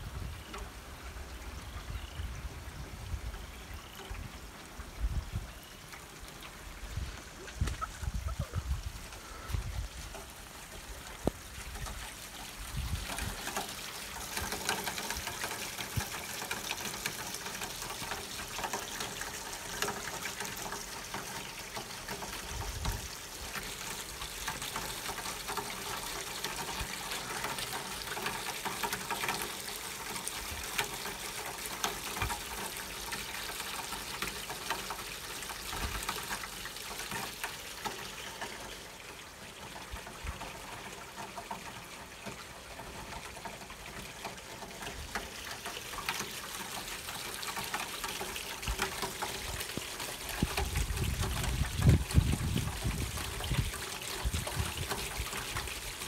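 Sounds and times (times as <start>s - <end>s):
steady rain: 0.0s - 56.0s
water trickling and splashing: 0.0s - 56.0s
small drips ticking: 0.2s - 56.0s.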